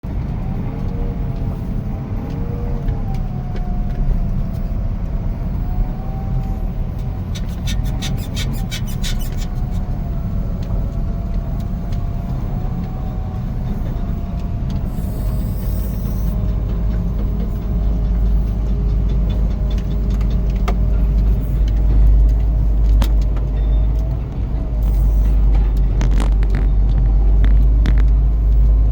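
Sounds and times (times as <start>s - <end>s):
diesel engine rumbling: 0.0s - 28.9s.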